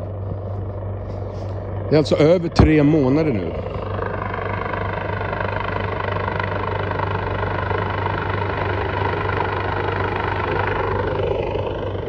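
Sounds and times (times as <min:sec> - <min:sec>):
helicopter flying low overhead: 0:00.0 - 0:12.0.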